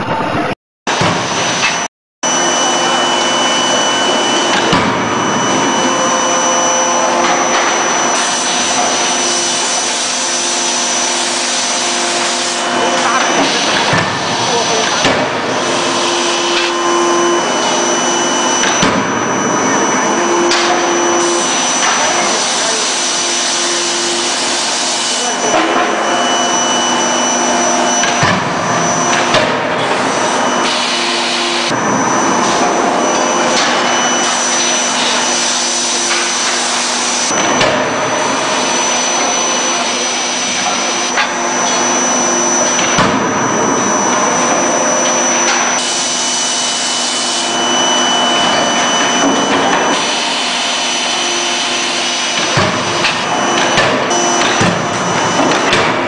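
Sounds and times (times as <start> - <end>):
forging hammer machine drone: 0.0 - 56.0.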